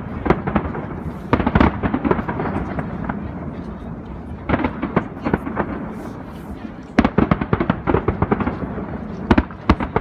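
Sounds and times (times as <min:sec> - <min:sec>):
firework crackles: 0:00.0 - 0:10.0.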